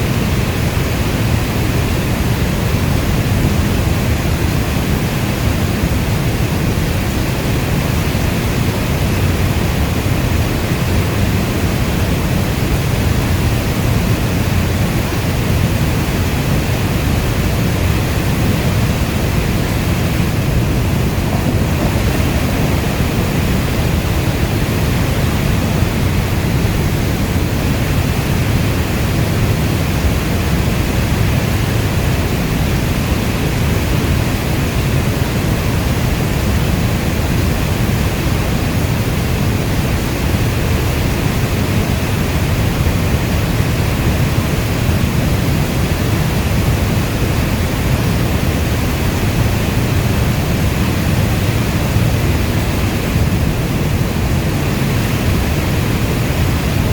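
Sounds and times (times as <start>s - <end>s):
heavy rainfall: 0.0s - 56.9s.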